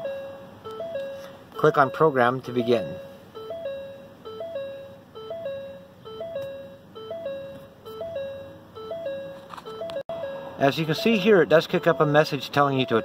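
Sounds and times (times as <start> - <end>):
electronic car warning chime: 0.0 - 13.0.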